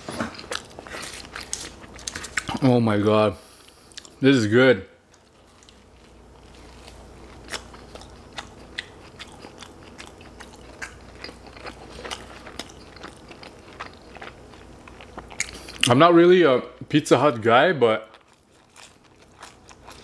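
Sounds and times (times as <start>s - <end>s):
person chewing pizza crust: 0.0s - 2.8s, 3.6s - 4.2s, 5.0s - 15.9s, 18.0s - 20.0s.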